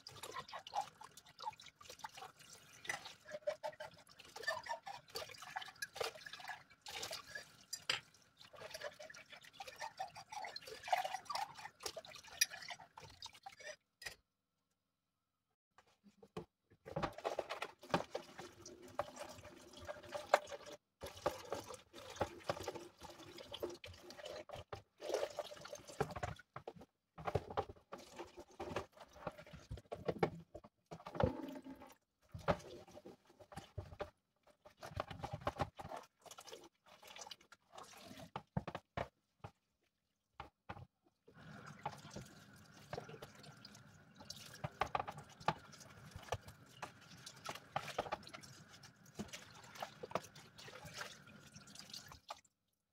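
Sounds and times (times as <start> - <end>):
water sloshing in sink: 0.0 - 14.2, 15.9 - 52.6.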